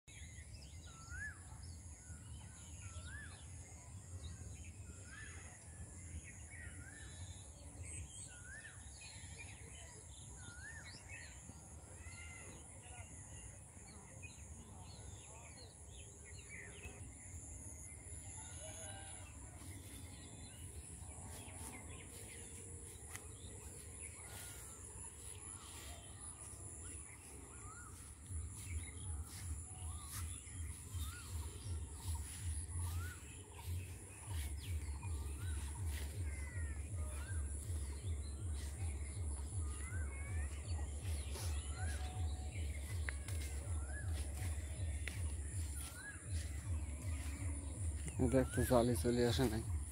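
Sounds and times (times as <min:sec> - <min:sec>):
birds chirping: 0:06.1 - 0:49.9.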